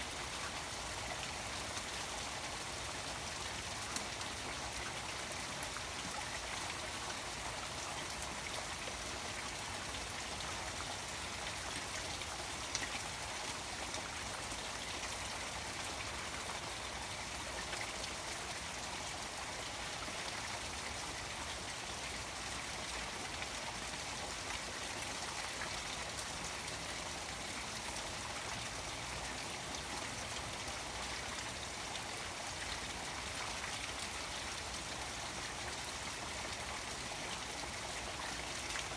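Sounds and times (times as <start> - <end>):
rain pattering on water: 0.0 - 38.9
waterfall spilling into a pond: 0.0 - 38.9.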